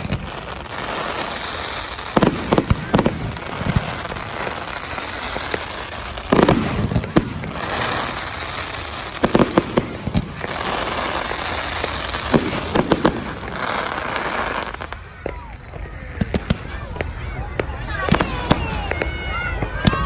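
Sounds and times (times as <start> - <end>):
fireworks bangs and pops: 0.0 - 20.0
fireworks crackling: 0.0 - 20.0.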